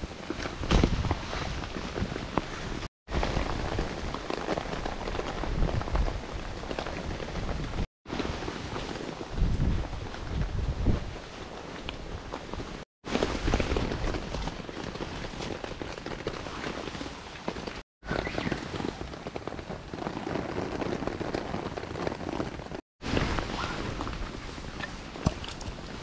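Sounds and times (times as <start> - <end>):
rain pattering: 1.5 - 26.0.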